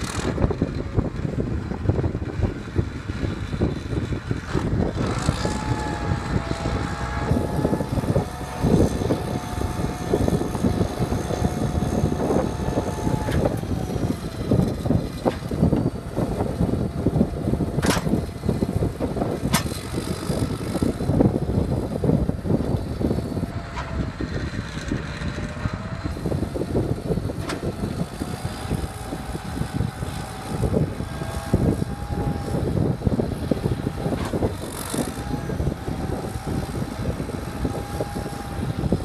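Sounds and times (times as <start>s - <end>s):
diesel engine running: 0.0s - 39.0s
hydraulic whine: 0.0s - 39.0s.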